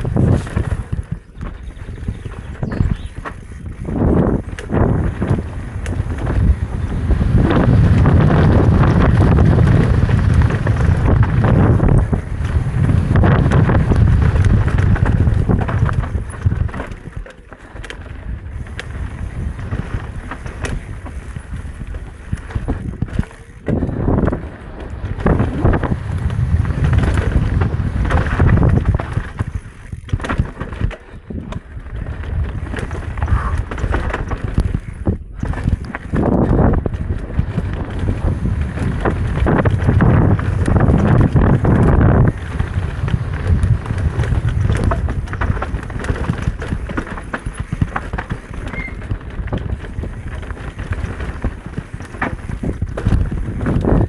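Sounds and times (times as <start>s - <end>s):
bike rattling over bumps: 0.0s - 54.0s
tyres rolling over dirt: 0.0s - 54.0s
wind buffeting the microphone: 0.0s - 54.0s.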